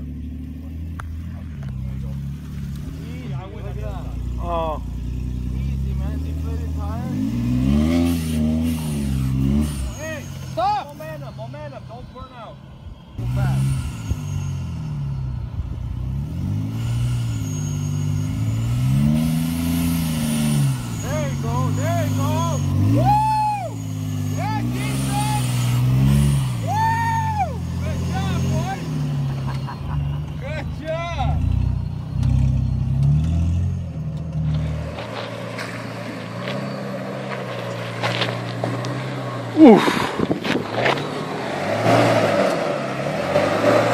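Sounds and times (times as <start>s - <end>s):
engine revving: 0.0s - 43.9s.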